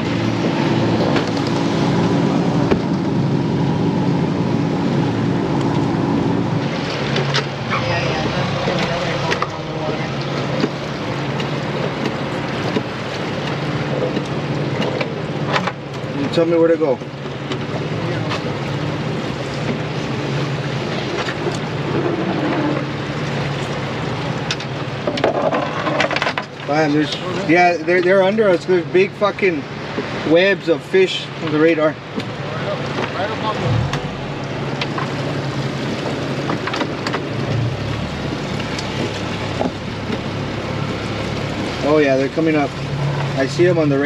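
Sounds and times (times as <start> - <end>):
boat motor running: 0.0 - 44.0
water noise: 0.0 - 44.0
wind: 0.0 - 44.0.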